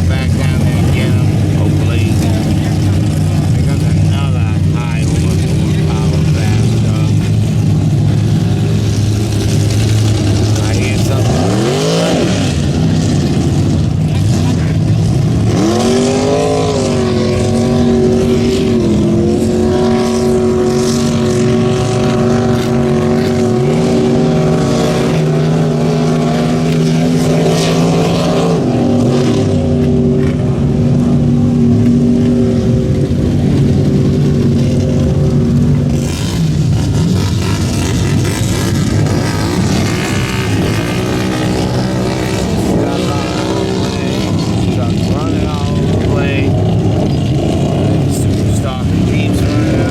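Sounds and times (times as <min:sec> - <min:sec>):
second engine revving: 0:00.0 - 0:49.9
truck engine at high revs: 0:00.0 - 0:49.9.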